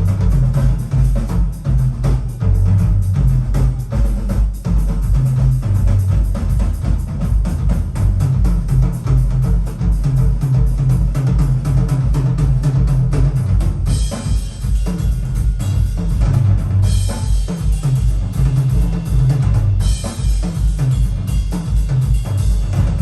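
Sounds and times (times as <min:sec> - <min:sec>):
percussion music over speakers: 0:00.0 - 0:23.0.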